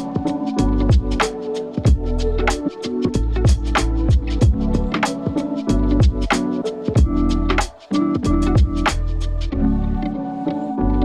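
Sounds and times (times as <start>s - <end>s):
electronic music with drum beat: 0.0s - 9.5s.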